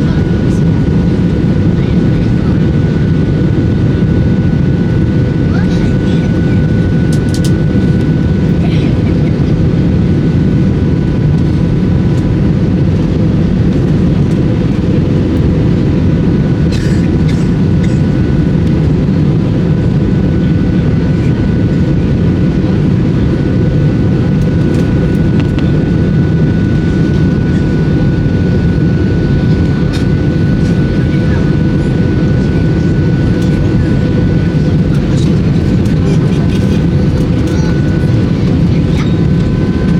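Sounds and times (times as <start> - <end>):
aircraft engines and airflow rumble: 0.0 - 39.9.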